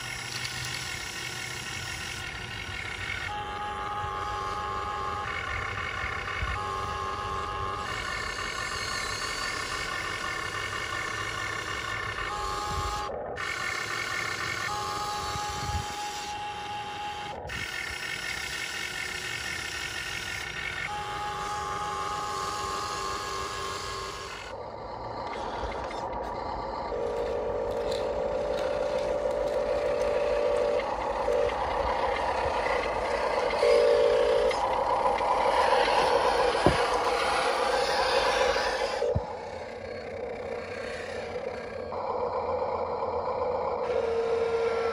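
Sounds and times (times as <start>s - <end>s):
electric motors whining: 0.0s - 44.9s
rough mechanical noise: 0.0s - 44.9s.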